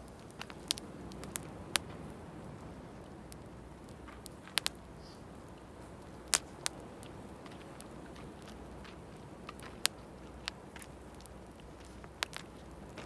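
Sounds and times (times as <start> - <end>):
sharp pops and snaps: 0.0 - 1.9, 3.3 - 13.0
bonfire crackling: 0.0 - 13.0.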